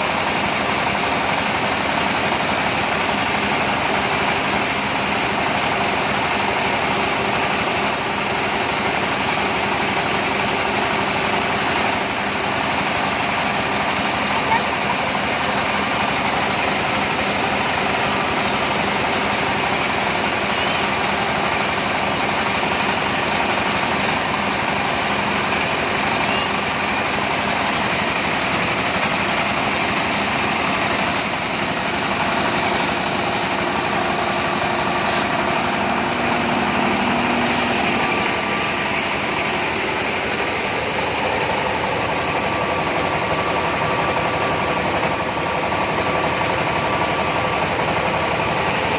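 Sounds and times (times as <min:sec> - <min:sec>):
machine drone: 0:00.0 - 0:48.9.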